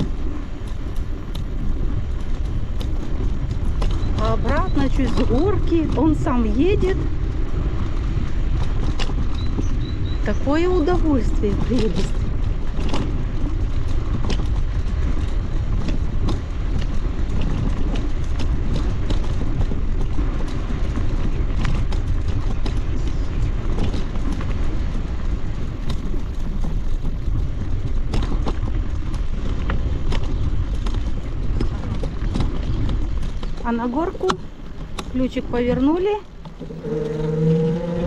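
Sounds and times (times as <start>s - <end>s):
bicycle tyres on paving: 0.0s - 38.0s
wind rumble on microphone: 0.0s - 38.0s.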